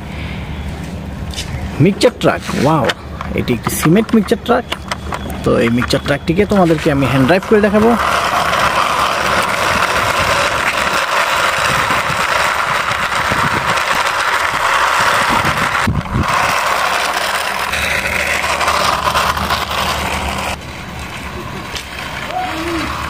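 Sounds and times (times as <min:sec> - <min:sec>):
toy truck wheels rolling: 0:01.2 - 0:23.0.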